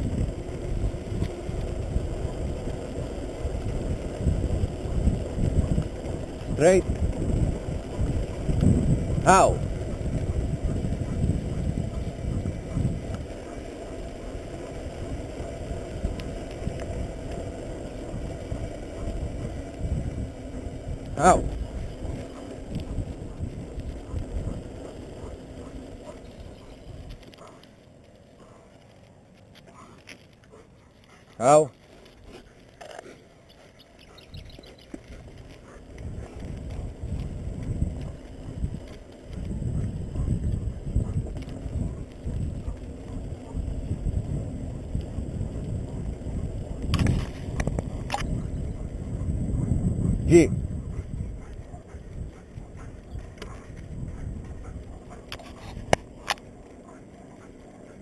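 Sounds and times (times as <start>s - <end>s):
wind buffeting microphone: 0.0s - 29.2s, 29.8s - 58.0s
bicycle tyres rolling on asphalt: 0.0s - 58.0s.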